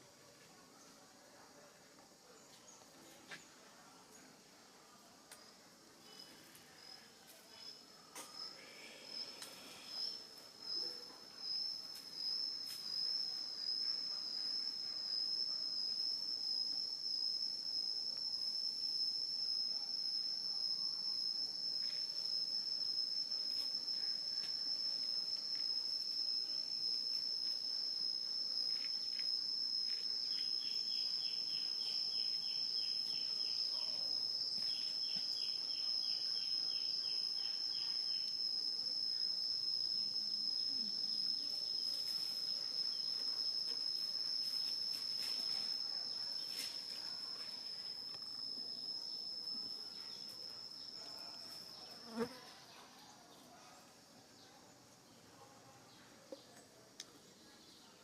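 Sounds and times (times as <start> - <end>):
insect chirps: 0.0 - 58.0
insects droning: 0.0 - 58.0.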